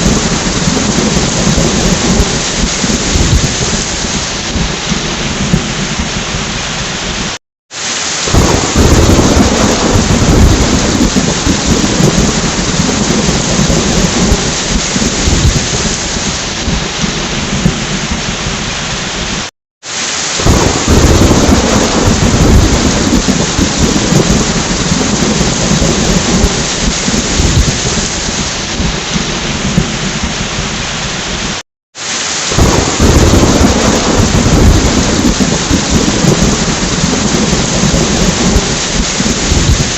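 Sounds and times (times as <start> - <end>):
rolling thunder: 0.0 - 7.4, 8.3 - 19.5, 20.4 - 31.6, 32.5 - 39.9
heavy rain: 0.0 - 39.9.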